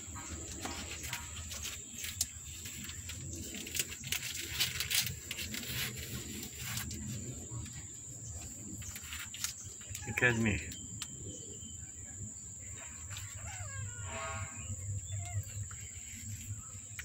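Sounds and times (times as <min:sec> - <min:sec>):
scratches and rustles on plastic: 0:00.0 - 0:11.3, 0:12.7 - 0:17.0.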